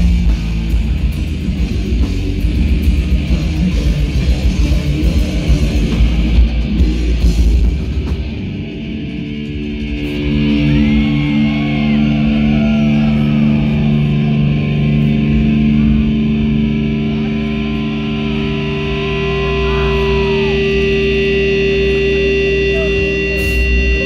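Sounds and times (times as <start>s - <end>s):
distorted electric guitars: 0.0s - 24.0s
drums: 0.0s - 24.0s
sliding guitar notes: 0.0s - 24.0s.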